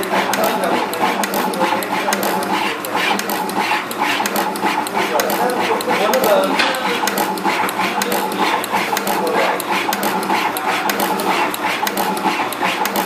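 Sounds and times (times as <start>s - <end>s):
machine sharp clicks: 0.0s - 13.0s
mechanical hum: 0.0s - 13.0s.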